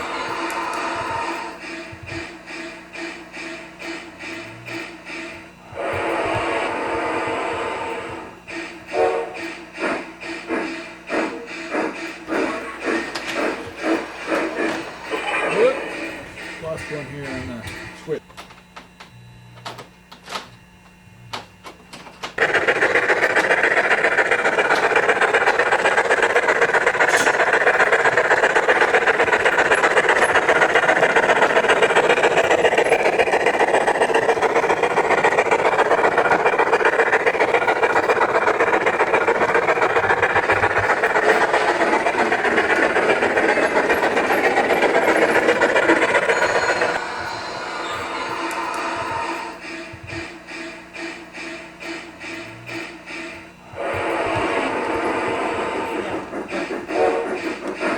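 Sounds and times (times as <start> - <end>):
model train rattling on track: 0.0 - 18.2, 22.2 - 57.9.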